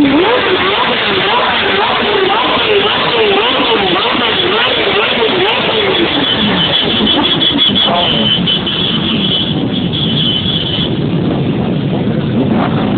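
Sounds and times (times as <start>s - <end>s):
motorcycle engines revving: 0.0s - 12.9s.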